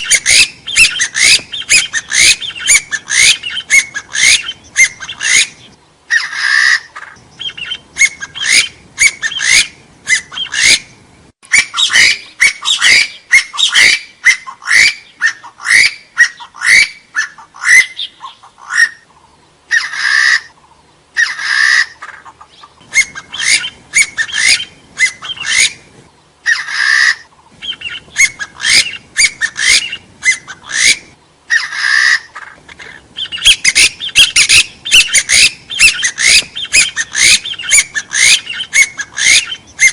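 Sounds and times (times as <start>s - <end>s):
partridge whistled calls: 0.0s - 39.9s.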